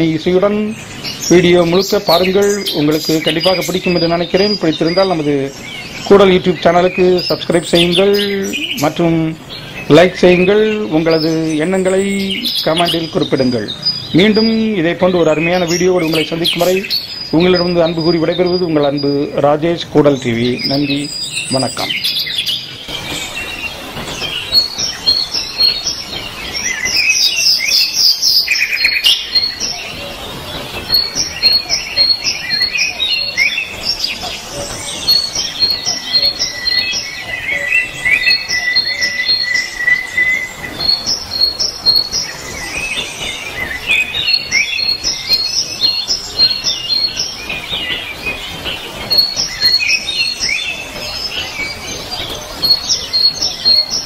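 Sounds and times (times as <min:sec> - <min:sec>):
bird trill: 0:00.0 - 0:54.0
songbirds chirping: 0:00.0 - 0:54.0.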